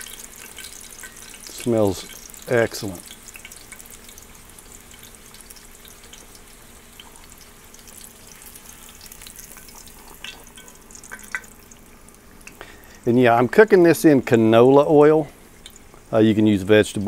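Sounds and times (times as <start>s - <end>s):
dough sizzling in hot oil: 0.0s - 17.0s.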